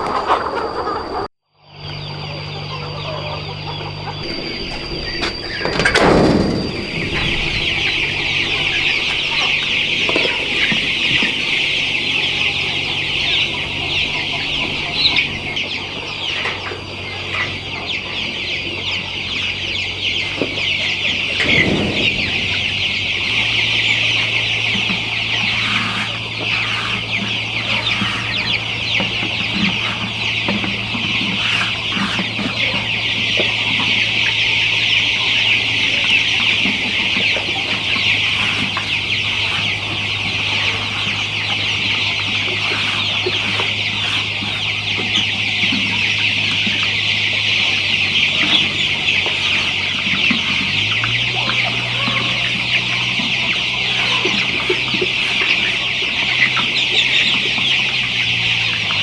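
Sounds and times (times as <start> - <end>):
flock of chickens calling: 0.0 - 59.0
steady low hum: 0.9 - 50.9.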